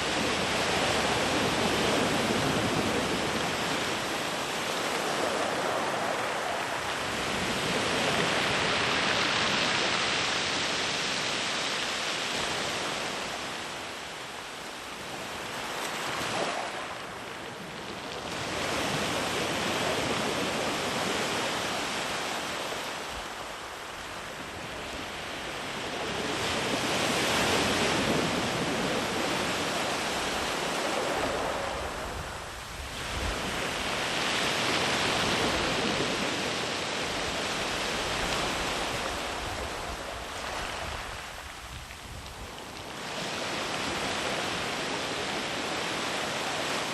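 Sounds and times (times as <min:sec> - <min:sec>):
sea waves breaking on beach: 0:00.0 - 0:46.9.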